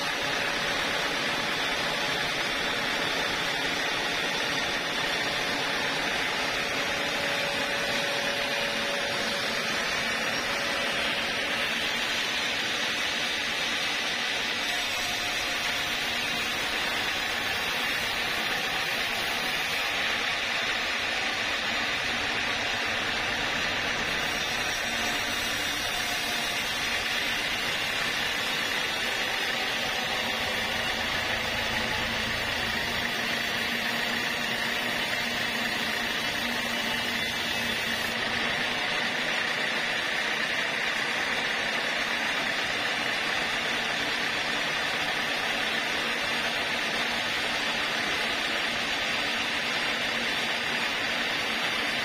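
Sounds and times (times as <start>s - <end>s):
band saw cutting log: 0.0s - 52.0s.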